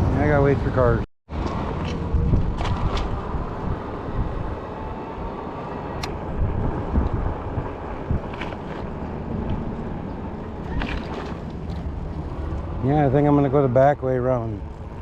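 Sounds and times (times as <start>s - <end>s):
road traffic passing: 0.0s - 15.0s
wind rumbling on microphone: 0.0s - 15.0s.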